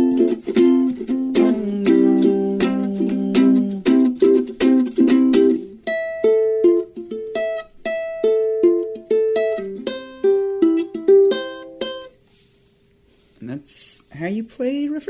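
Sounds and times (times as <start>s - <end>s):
ukulele strummed and plucked: 0.0s - 12.2s.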